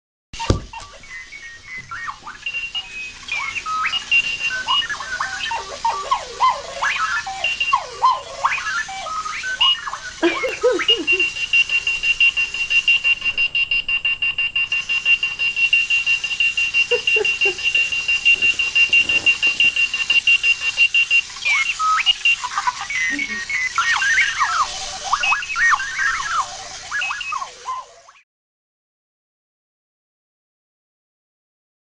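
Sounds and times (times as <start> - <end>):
alarm clock beeping: 0.4 - 28.2
warbling electronic chirps: 0.4 - 28.2.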